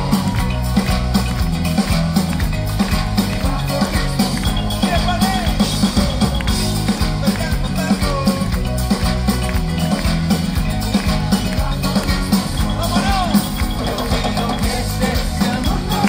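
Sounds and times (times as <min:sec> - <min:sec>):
live pop band music: 0:00.0 - 0:16.0.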